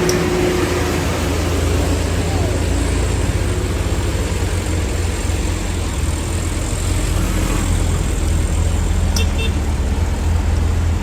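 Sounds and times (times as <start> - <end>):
diesel truck engine droning: 0.0 - 11.0
road and air noise: 0.0 - 11.0.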